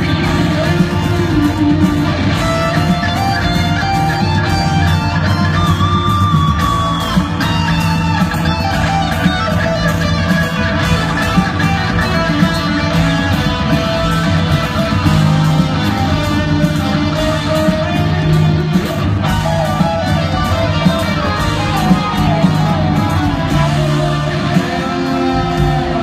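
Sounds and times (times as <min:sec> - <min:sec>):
bass: 0:00.0 - 0:26.0
guitars: 0:00.0 - 0:26.0
keyboards: 0:00.0 - 0:26.0.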